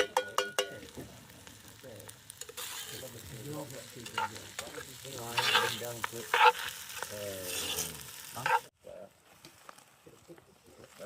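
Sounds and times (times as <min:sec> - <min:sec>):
food frying and sizzling: 0:00.0 - 0:11.0.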